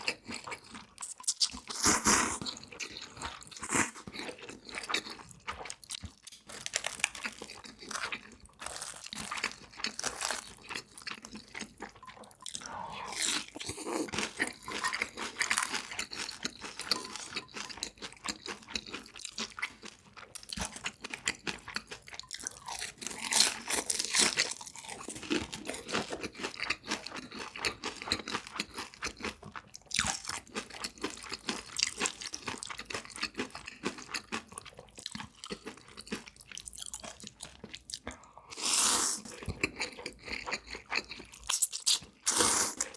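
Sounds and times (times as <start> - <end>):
crunchy food being chewed: 0.0 - 42.9.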